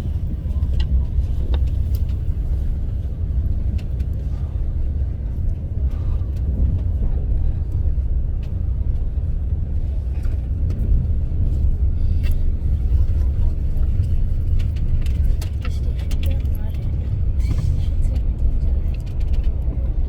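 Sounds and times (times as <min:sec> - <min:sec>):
high-speed train rumble: 0:00.0 - 0:20.0.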